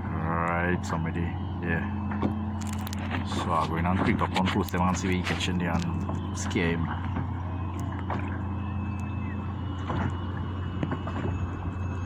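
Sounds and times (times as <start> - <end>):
small boat motor humming: 0.0 - 12.0
water splashing: 0.8 - 12.0.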